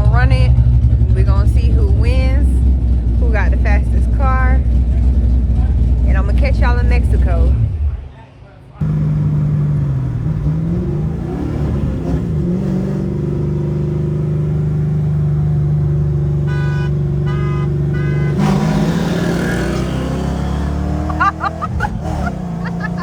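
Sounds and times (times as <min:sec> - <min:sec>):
car engine droning: 0:00.0 - 0:08.2, 0:08.8 - 0:23.0.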